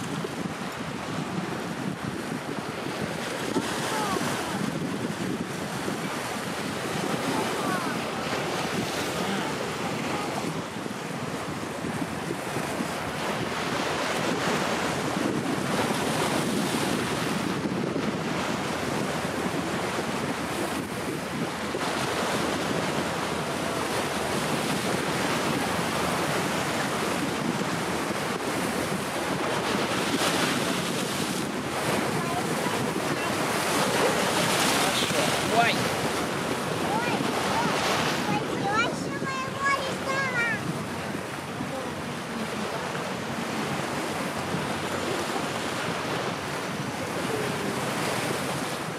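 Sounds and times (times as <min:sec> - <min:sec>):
choppy sea water washing: 0:00.0 - 0:48.9
wind buffeting microphone: 0:00.0 - 0:48.9.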